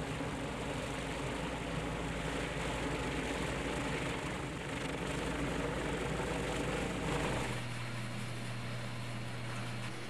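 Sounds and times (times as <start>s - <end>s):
propeller plane engine throbbing: 0.0s - 10.0s.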